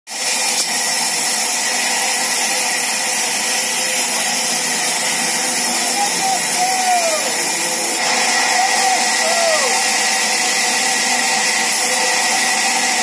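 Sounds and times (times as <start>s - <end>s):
band saw cutting wood: 0.1s - 13.0s.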